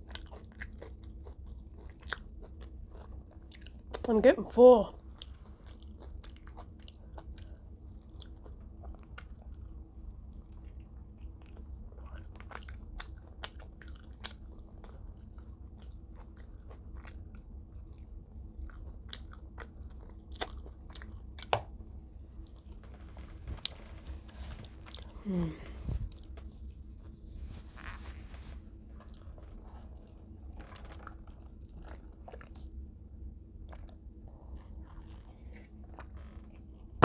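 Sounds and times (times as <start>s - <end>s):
chewing crispy fried chicken: 0.0s - 26.6s, 29.0s - 37.0s
steady low hum: 0.0s - 37.0s.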